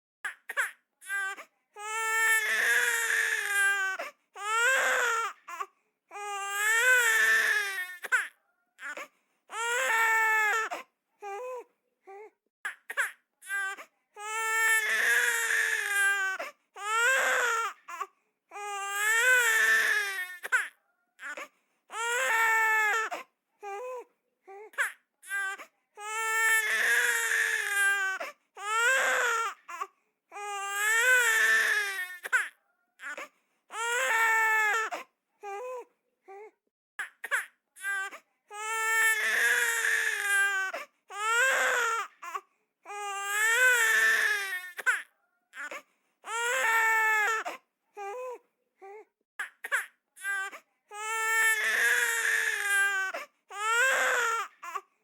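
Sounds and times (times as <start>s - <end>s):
baby crying: 0.4s - 12.3s, 12.9s - 54.8s.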